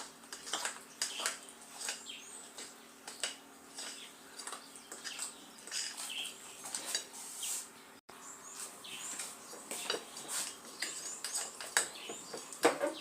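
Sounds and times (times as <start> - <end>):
fork whisking batter in a bowl: 0.0 - 7.7, 8.6 - 12.6.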